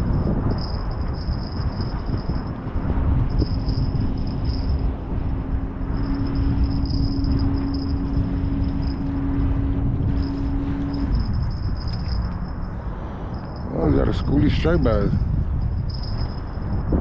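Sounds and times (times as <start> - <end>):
low hum: 0.0 - 17.0
thin high whine: 0.0 - 17.0
wind rumbling on microphone: 0.0 - 17.0.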